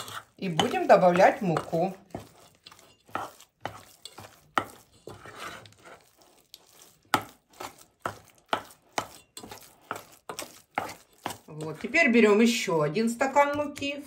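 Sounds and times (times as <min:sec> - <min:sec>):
spoon stirring dough in a bowl: 0:00.0 - 0:14.0.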